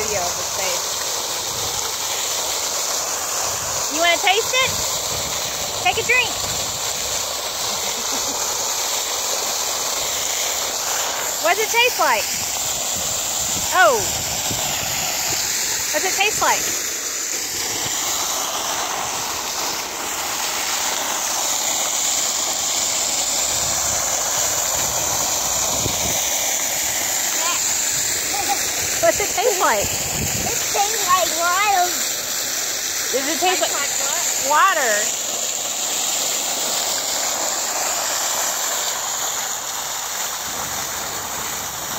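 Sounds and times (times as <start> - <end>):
fountain splashing into basin: 0.0 - 41.9.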